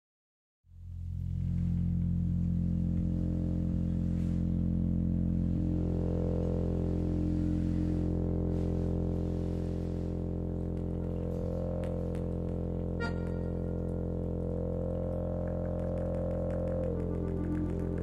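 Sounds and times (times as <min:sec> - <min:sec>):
ensemble drone tones: 0:00.7 - 0:18.0.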